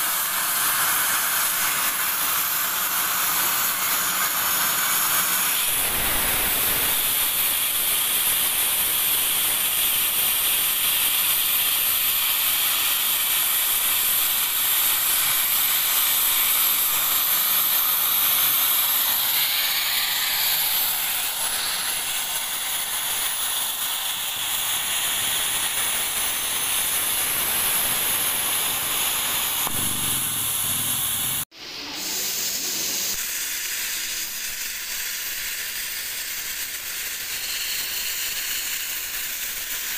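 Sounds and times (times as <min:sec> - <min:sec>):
plasma torch hissing: 0:00.0 - 0:39.9.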